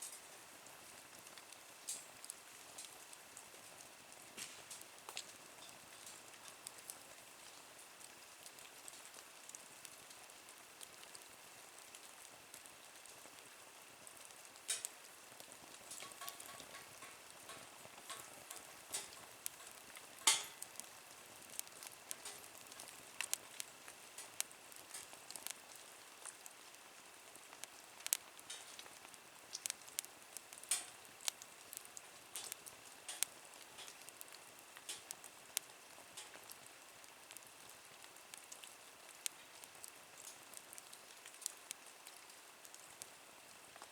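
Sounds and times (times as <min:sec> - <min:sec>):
faint fire hiss: 0:00.0 - 0:43.9
wood fire crackling and popping: 0:00.0 - 0:43.9.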